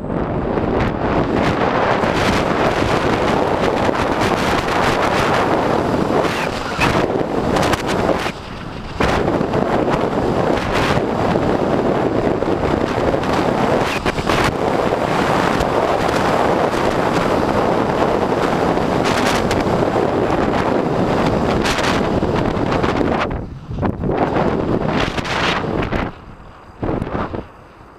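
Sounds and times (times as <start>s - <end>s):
wind rushing over microphone: 0.0s - 27.9s.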